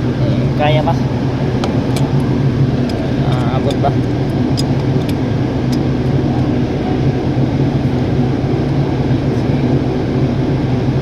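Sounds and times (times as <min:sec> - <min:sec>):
machine droning: 0:00.0 - 0:11.0.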